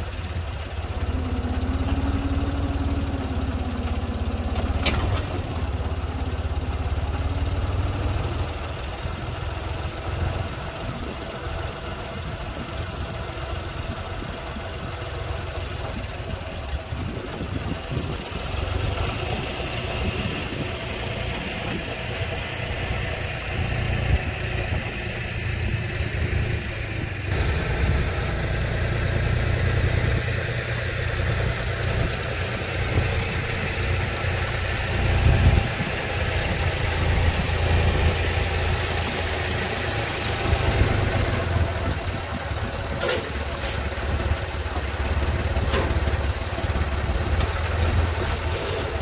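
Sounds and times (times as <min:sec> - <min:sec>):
tractor engine idling: 0:00.0 - 0:49.0.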